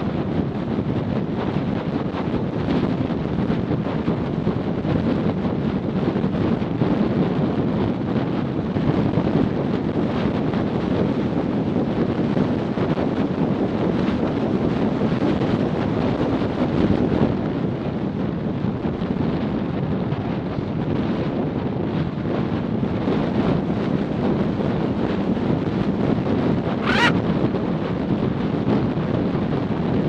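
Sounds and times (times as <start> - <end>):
wind rushing across microphone: 0.0 - 30.0.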